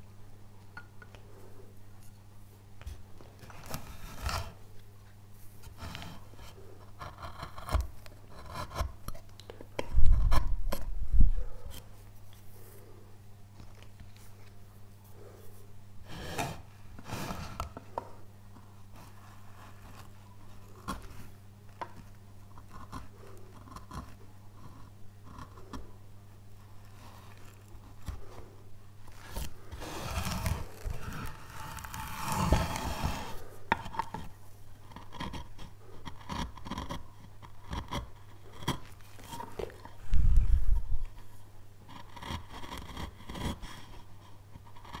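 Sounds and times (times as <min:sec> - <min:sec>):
carving tool scraping wood: 0:03.3 - 0:04.8, 0:05.5 - 0:12.0, 0:15.1 - 0:25.9, 0:26.6 - 0:28.4, 0:29.0 - 0:45.0.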